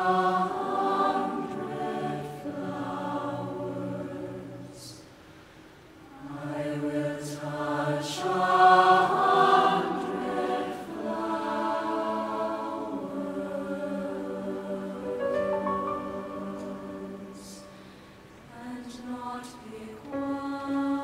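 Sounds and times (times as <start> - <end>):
choir singing in harmony: 0.0 - 5.2, 6.0 - 21.0.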